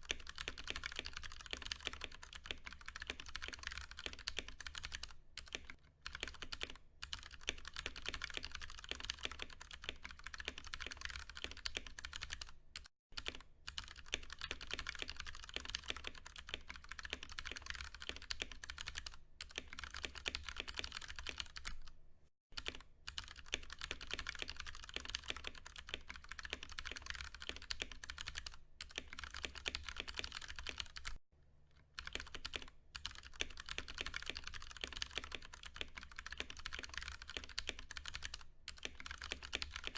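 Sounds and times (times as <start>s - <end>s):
fast mechanical keyboard typing: 0.0s - 21.9s, 22.6s - 31.2s, 31.9s - 39.9s.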